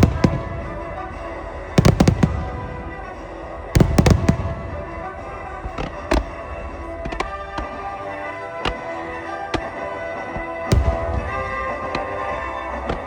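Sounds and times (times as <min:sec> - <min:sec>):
fireworks bangs: 0:00.0 - 0:08.8, 0:10.7 - 0:13.0
music: 0:00.0 - 0:13.0.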